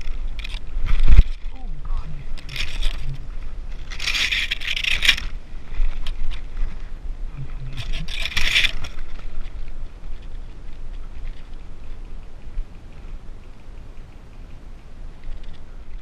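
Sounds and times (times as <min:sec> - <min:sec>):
rustling and scraping: 0:00.0 - 0:16.0
steady low rumble: 0:00.0 - 0:16.0.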